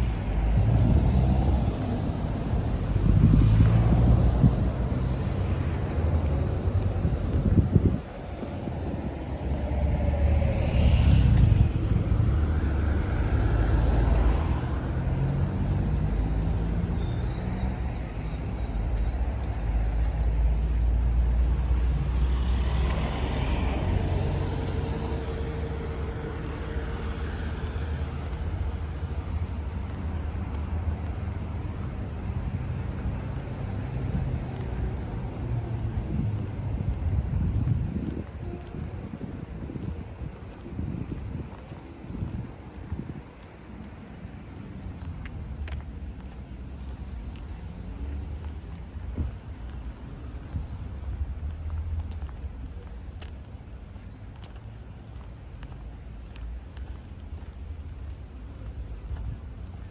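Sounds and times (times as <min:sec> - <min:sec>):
cars passing: 0:00.0 - 0:59.9
low traffic rumble: 0:00.0 - 0:59.9.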